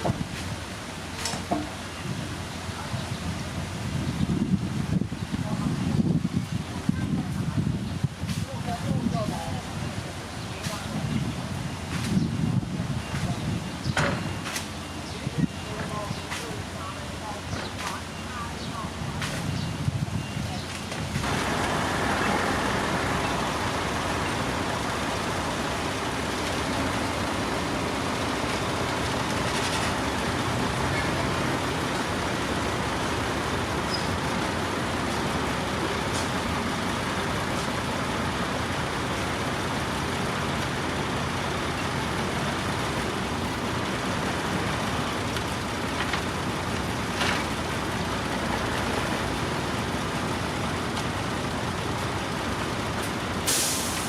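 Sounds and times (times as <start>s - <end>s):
heavy diesel machinery running: 9.0s - 54.0s.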